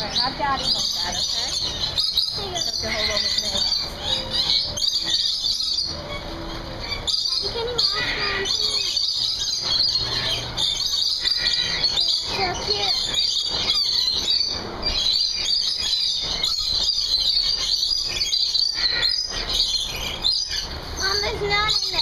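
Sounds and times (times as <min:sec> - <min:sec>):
parrots chattering and screeching: 0:00.0 - 0:22.0.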